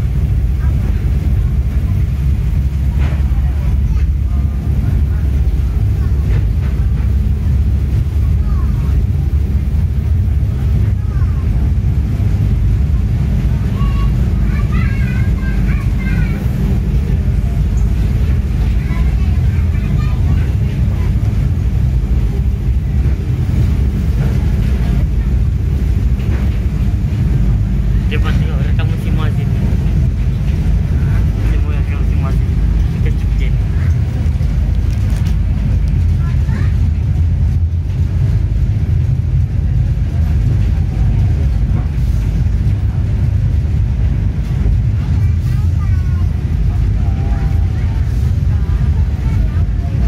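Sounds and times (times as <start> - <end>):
train rumbling from inside carriage: 0.0 - 50.0.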